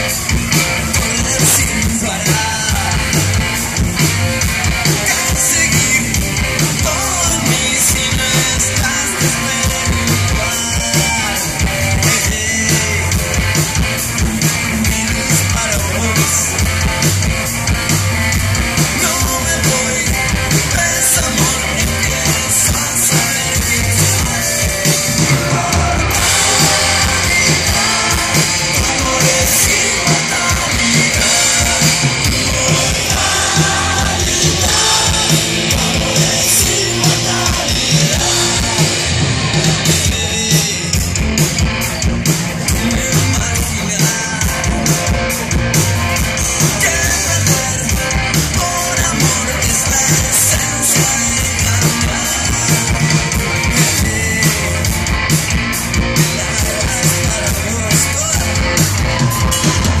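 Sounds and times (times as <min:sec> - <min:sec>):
crowd singing and shouting: 0:00.0 - 1:00.0
live rock band playing: 0:00.0 - 1:00.0.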